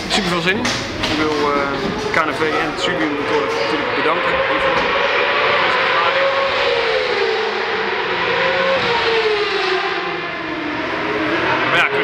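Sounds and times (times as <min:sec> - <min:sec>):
engine noise wash: 0:00.0 - 0:12.0
racing motorcycle engine: 0:00.0 - 0:12.0.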